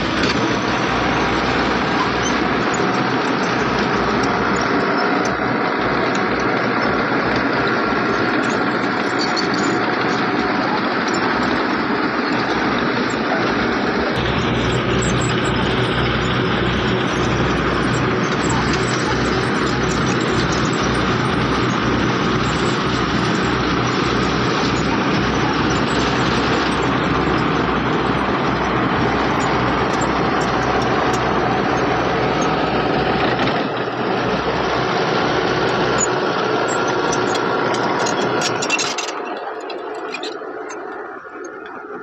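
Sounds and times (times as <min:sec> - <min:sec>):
diesel engine running hard: 0:00.0 - 0:42.0.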